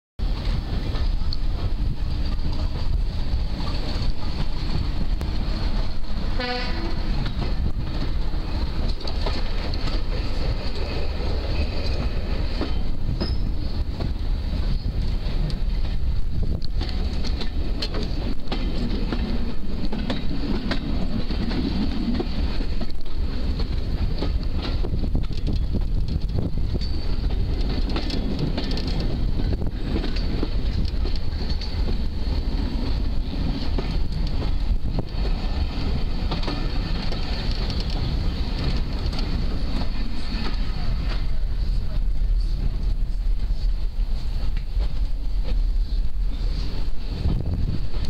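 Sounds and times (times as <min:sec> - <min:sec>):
train rumbling on rails: 0:00.2 - 0:48.0.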